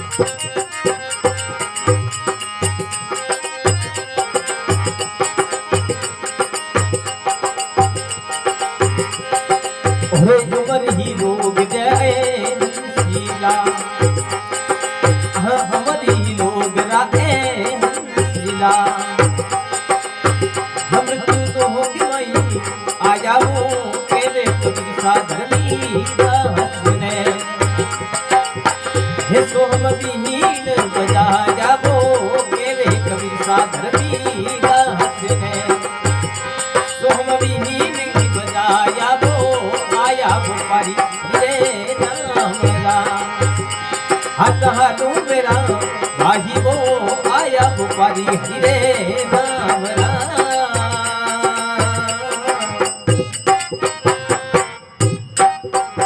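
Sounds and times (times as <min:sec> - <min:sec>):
dholak drum beat: 0:00.0 - 0:56.0
harmonium melody: 0:00.0 - 0:56.0.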